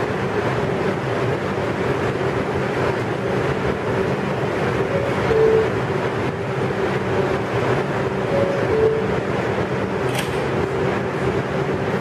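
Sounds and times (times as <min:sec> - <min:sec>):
subway train humming: 0:00.0 - 0:12.0.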